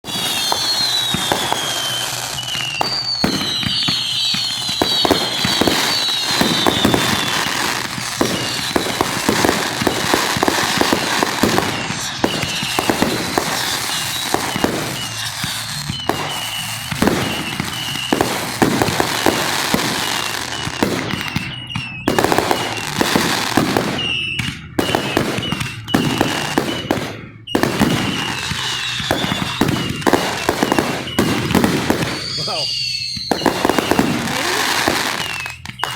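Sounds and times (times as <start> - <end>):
fireworks bangs: 0.0 - 35.9
fireworks crackling: 0.0 - 35.9
high falling whistles: 0.1 - 35.9.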